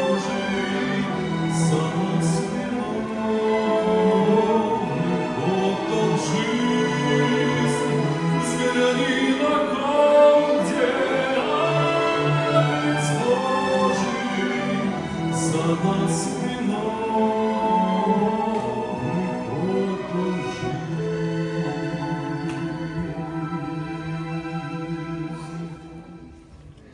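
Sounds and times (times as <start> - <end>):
string orchestra playing: 0.0 - 26.9.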